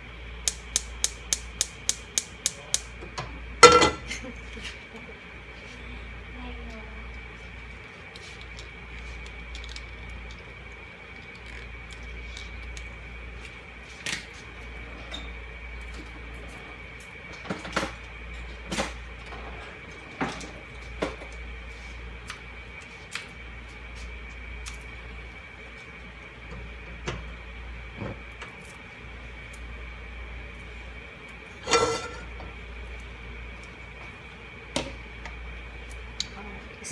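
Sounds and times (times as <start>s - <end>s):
low hum with high whine: 0.0s - 36.9s.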